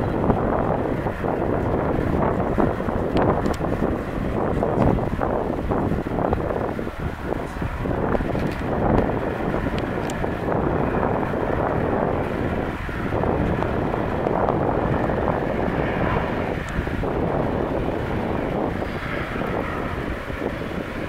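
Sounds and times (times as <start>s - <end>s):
airliner engines roaring: 0.0s - 21.0s
wind buffeting microphone: 0.0s - 21.0s.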